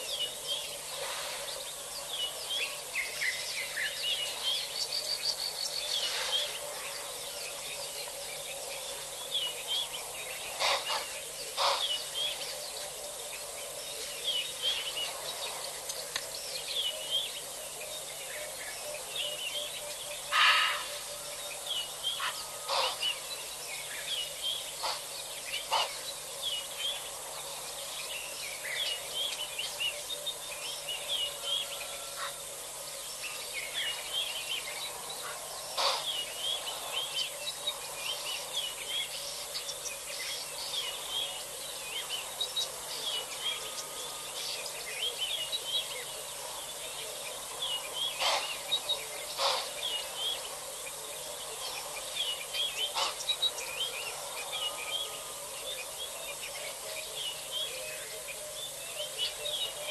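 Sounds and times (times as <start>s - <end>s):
faint hiss: 0.0s - 59.9s
wild birds chirping: 0.0s - 59.9s.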